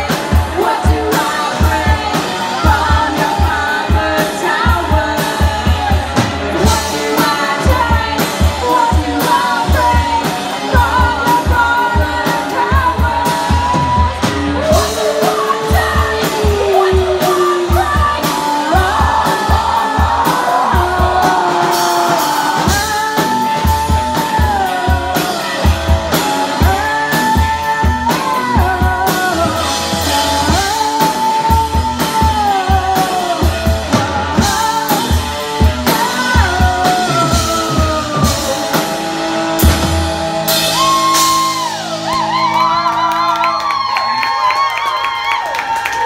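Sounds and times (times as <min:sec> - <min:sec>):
woman singing: 0:00.0 - 0:39.4
live rock band playing: 0:00.0 - 0:46.0.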